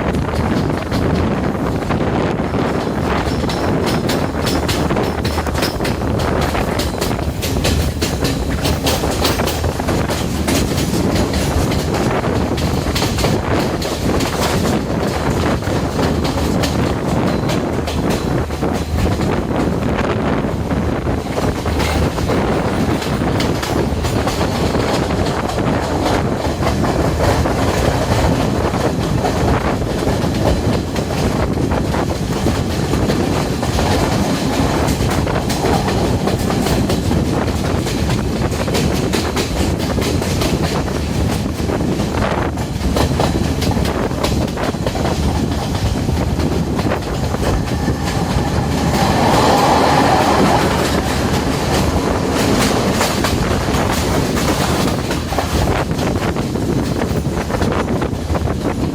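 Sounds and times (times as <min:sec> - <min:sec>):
train rumbling along track: 0:00.0 - 0:58.9
wheels clicking over rail joints: 0:00.1 - 0:20.4, 0:21.0 - 0:58.9.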